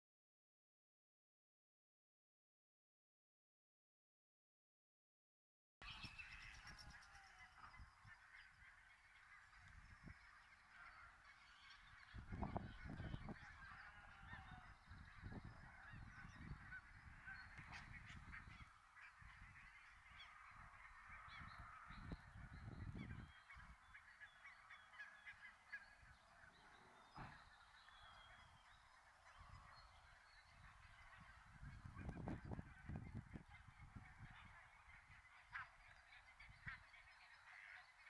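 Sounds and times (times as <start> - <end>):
geese honking: 5.9 - 38.0.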